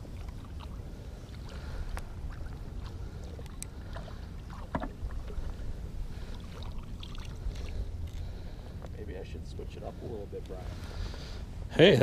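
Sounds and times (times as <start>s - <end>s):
water against hull: 0.0s - 11.5s
boat engine rumble: 0.0s - 12.0s
wind: 0.0s - 12.0s.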